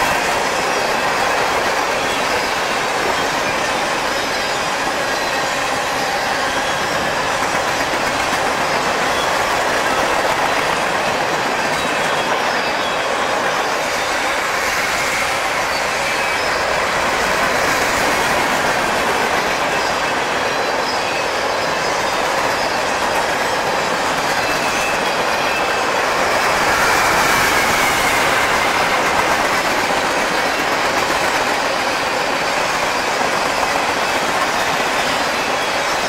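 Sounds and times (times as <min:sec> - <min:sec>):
freight train wheels clattering: 0:00.0 - 0:36.0
high wheel squeal: 0:00.0 - 0:36.0.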